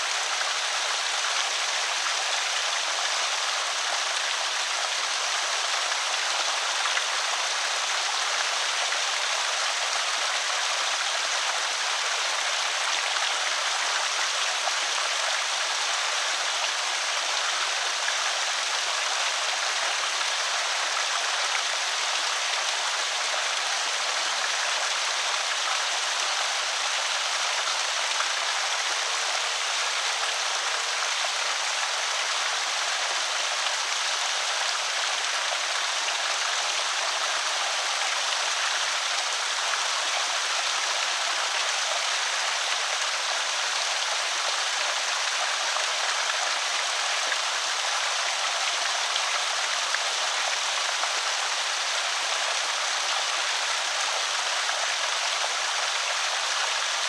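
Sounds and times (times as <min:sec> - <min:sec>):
water rushing over a spillway: 0:00.0 - 0:57.0.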